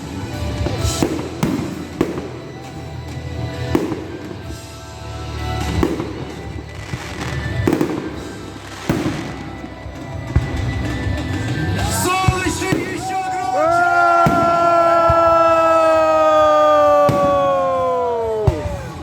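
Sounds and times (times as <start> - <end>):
fireworks bangs: 0.0 - 19.0
music playing: 0.0 - 19.0.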